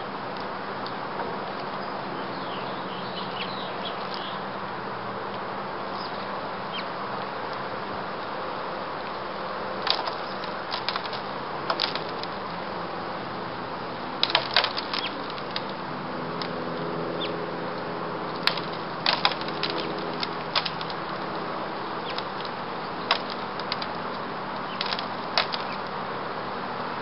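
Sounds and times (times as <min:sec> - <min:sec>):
small birds ticking and chirping: 0:00.0 - 0:27.0.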